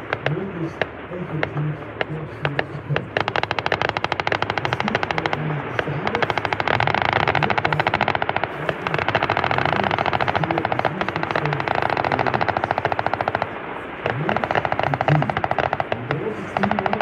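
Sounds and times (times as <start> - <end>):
automatic gunfire bursts: 1.4 - 17.0.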